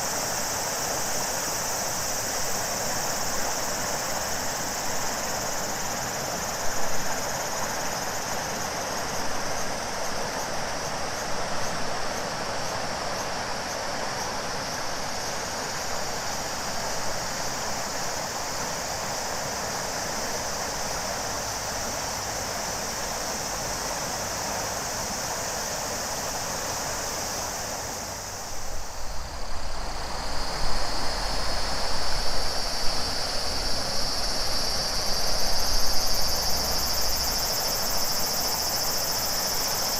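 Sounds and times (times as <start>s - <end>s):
cicadas shrilling: 0.0s - 39.9s
river water flowing: 0.0s - 39.9s.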